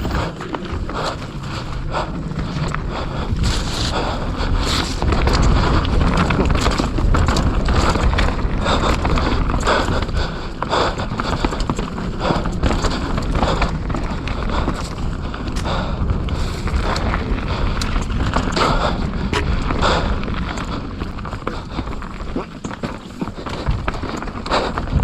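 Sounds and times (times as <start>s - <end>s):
bike knocks and rattles: 0.0s - 25.0s
bike tyre noise: 0.0s - 25.0s
wind buffeting microphone: 0.0s - 25.0s.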